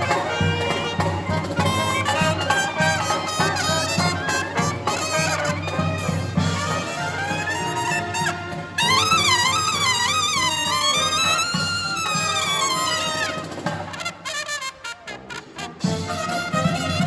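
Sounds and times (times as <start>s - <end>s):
marching brass band playing: 0.0s - 17.0s.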